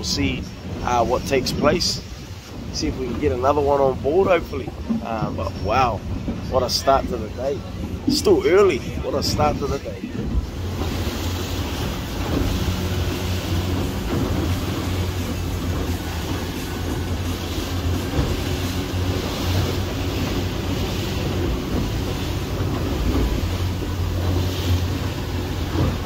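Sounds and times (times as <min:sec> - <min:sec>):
boat engine droning: 0:00.0 - 0:26.0
water rushing along hull: 0:00.0 - 0:26.0.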